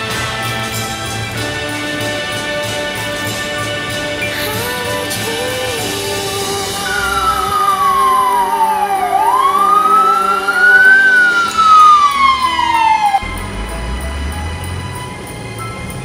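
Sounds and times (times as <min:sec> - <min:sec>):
ambulance siren wailing: 0:00.0 - 0:16.0.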